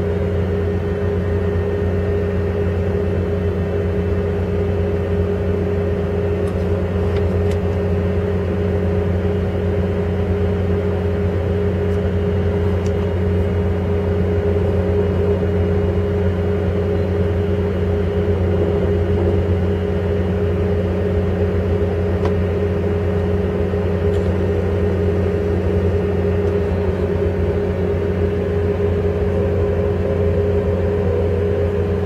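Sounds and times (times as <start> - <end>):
train car rumbling on rails: 0.0 - 32.0.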